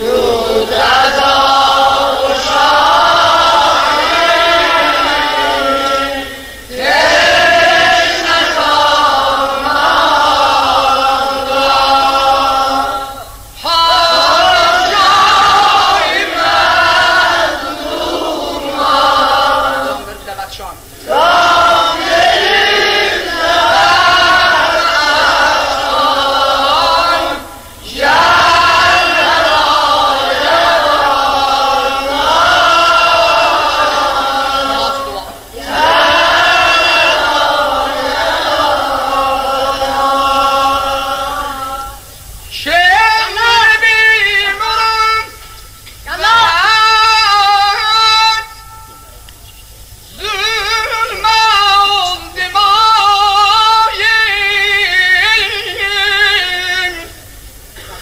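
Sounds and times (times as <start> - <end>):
voices chanting a lament: 0.0 - 58.0.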